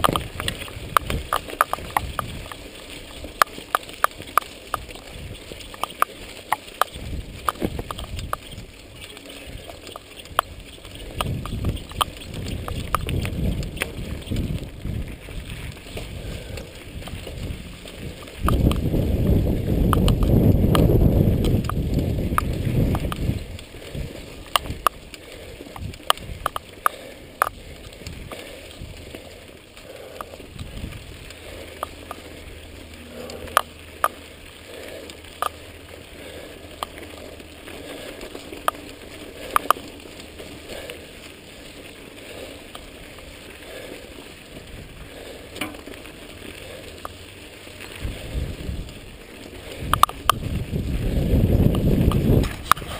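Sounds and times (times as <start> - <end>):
bike clicks and rattles: 0.0 - 52.9
bike tyres on dirt: 0.0 - 52.9.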